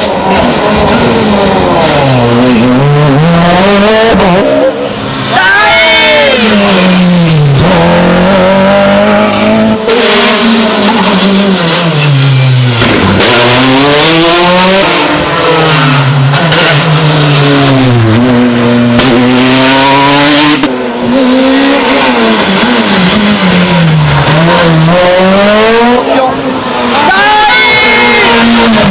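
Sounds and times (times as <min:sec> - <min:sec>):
rally cars passing at full throttle: 0:00.0 - 0:28.9.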